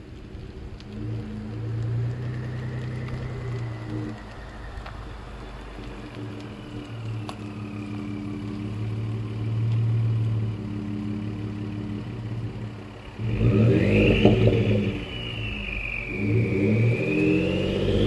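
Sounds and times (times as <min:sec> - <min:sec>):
engine idling and revving: 0:00.0 - 0:18.0
exhaust whistle: 0:00.9 - 0:18.0.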